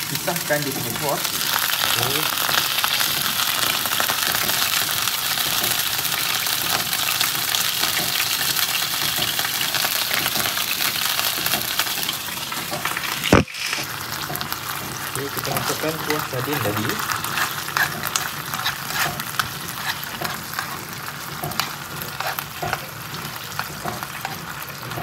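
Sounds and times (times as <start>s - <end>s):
fish sizzling in hot oil: 0.0s - 25.0s
spoon stirring in a pan: 0.8s - 13.2s, 14.1s - 25.0s.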